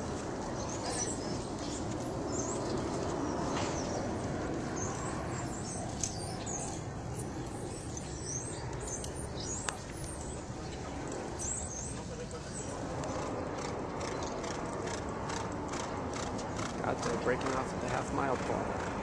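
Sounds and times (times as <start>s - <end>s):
outdoor background noise: 0.0s - 19.0s
small birds chirping: 0.0s - 19.0s.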